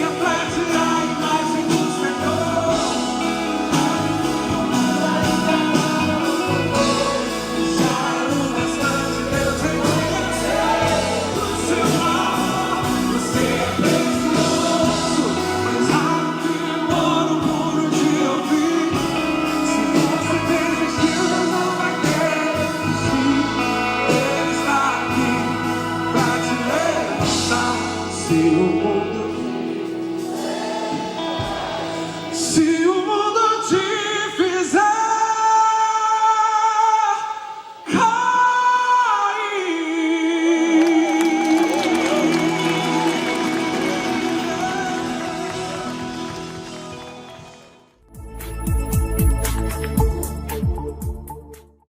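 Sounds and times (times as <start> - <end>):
band with drums: 0.0 - 32.7, 41.3 - 47.6, 48.2 - 51.5
voices singing gospel: 0.0 - 47.6.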